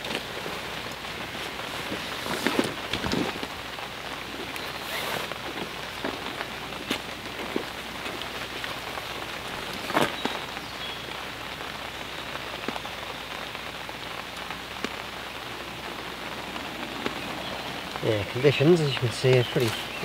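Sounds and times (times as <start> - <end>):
rain falling on a lake: 0.0 - 20.0.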